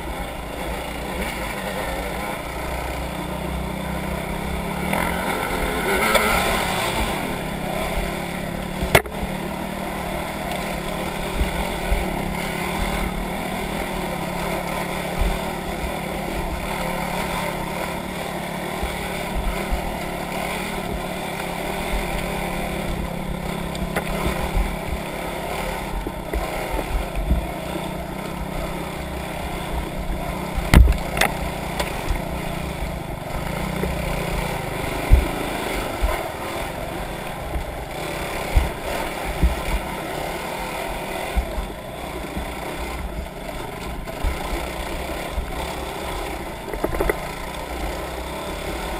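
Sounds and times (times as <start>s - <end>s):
off-road vehicle engine running: 0.0s - 48.9s.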